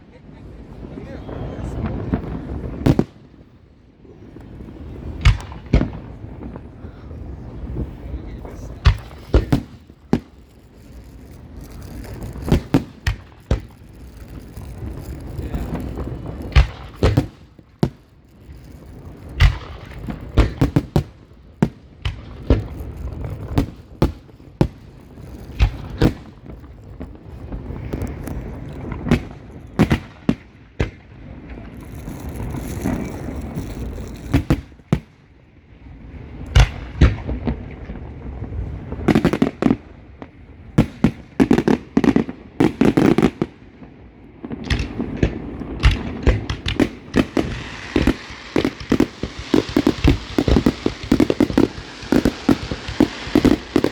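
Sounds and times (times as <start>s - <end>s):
fireworks bangs: 0.0s - 35.4s, 36.1s - 53.9s
fireworks crackling hiss: 0.0s - 53.9s.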